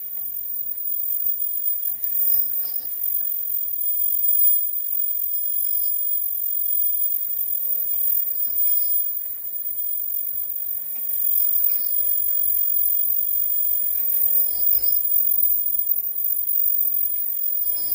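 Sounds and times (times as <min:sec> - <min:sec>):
machine whine and hiss: 0:00.0 - 0:17.9.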